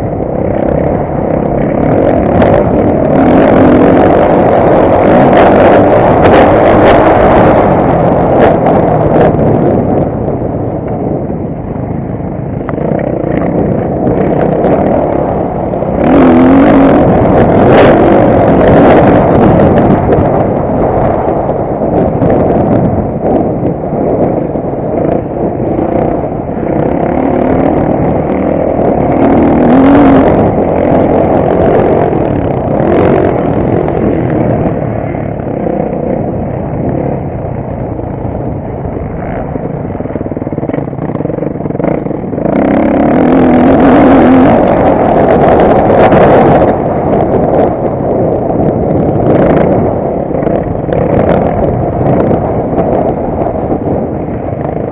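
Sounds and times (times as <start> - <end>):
motorbike engine revving: 0.0 - 54.9.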